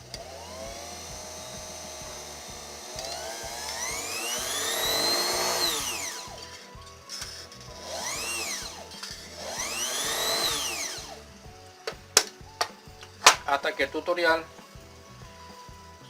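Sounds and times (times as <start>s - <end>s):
sewing machine motor whining: 0.0s - 13.1s.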